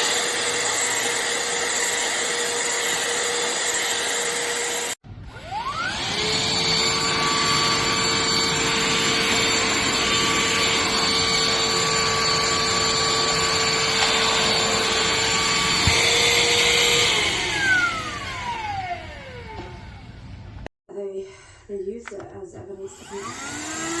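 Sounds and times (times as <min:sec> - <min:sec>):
handheld vacuum running: 0:00.0 - 0:20.0, 0:22.1 - 0:24.0.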